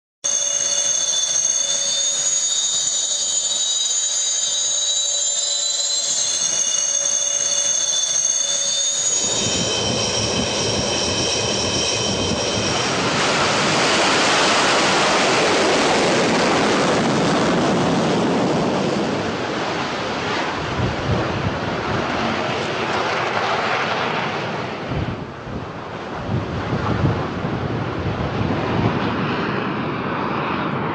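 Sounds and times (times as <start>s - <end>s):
jet engine roar: 0.2s - 30.9s
jet engine whine: 0.2s - 30.9s.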